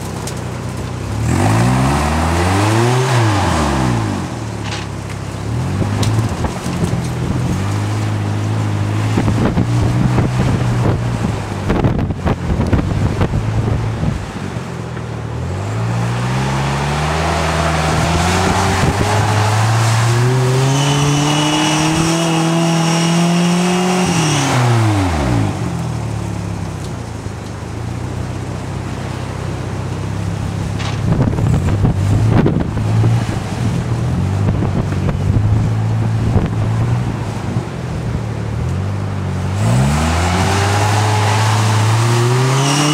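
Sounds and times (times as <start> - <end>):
high engine whine: 0.0 - 42.9
off-road vehicle engine revving: 0.0 - 42.9.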